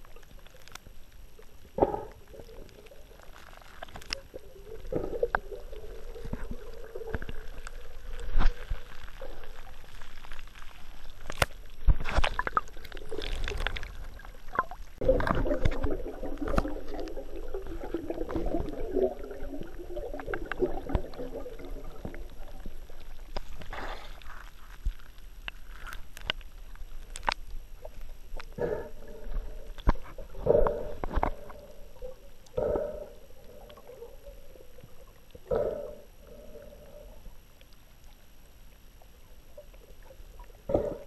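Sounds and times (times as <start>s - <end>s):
water sloshing and gurgling: 0.0s - 41.0s.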